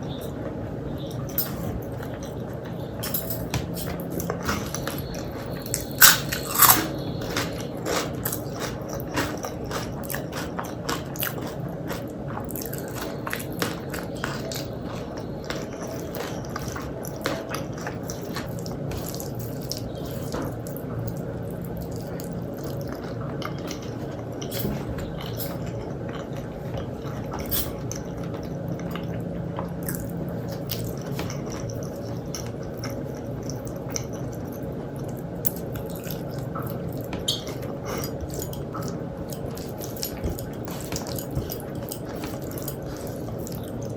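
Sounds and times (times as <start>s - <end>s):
wet chewing and smacking: 1.0s - 43.9s.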